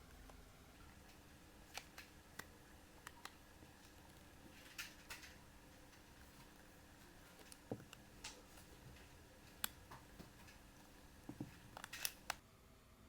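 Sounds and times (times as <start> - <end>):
small objects clicking and tapping: 0.9 - 12.4.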